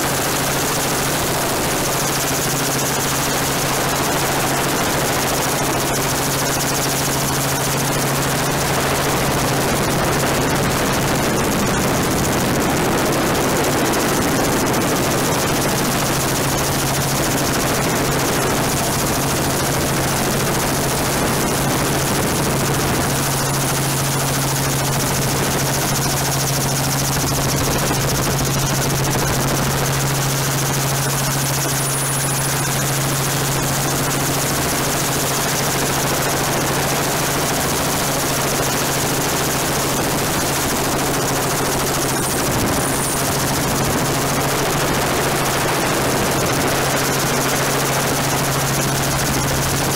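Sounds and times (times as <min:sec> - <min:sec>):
helicopter rotor and engine drone: 0:00.0 - 0:49.9.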